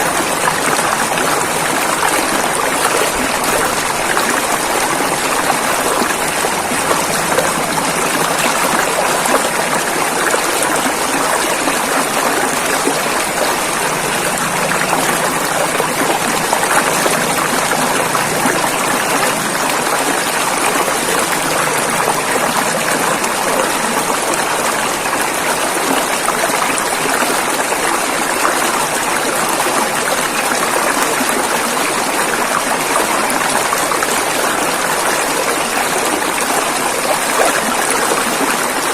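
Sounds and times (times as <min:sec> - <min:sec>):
river rushing over rapids: 0:00.0 - 0:38.9.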